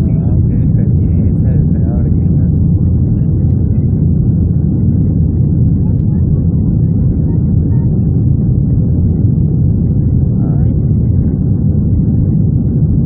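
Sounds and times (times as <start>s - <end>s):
airplane cabin engine roar: 0.0s - 13.0s.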